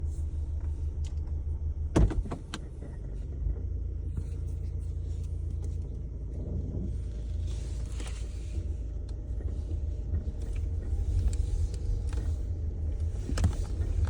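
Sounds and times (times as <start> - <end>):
low vibrating rumble in car: 0.0 - 14.0.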